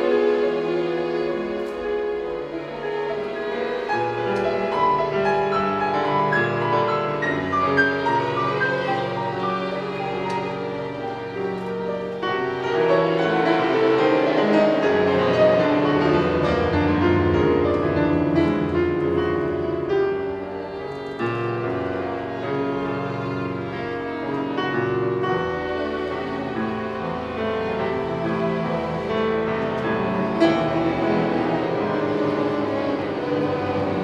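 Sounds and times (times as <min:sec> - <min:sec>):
piano: 0:00.0 - 0:34.0
string orchestra: 0:00.0 - 0:34.0.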